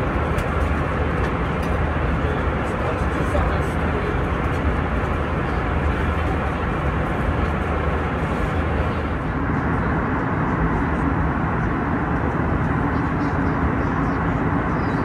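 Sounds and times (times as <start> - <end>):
airliner cabin rumble and hiss: 0.0 - 15.0.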